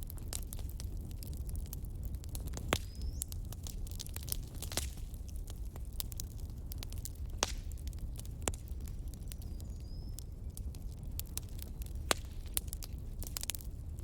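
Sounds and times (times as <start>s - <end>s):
fire popping and snapping: 0.0s - 14.0s
wood fire crackling: 0.0s - 14.0s.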